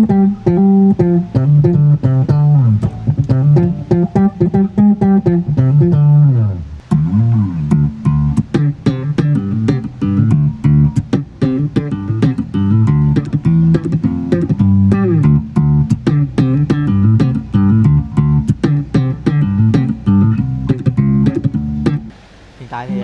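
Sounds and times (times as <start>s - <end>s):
electric bass guitar plucked: 0.0s - 22.1s.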